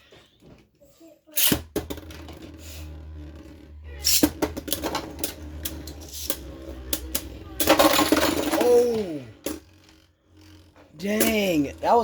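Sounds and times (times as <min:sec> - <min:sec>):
spinning tops humming: 0:02.0 - 0:12.0.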